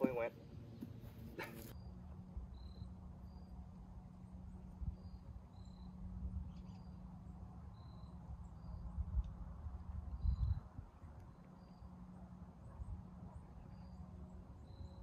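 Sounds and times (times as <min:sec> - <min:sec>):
steady low hum: 0:00.0 - 0:15.0
low wind rumble: 0:00.4 - 0:15.0.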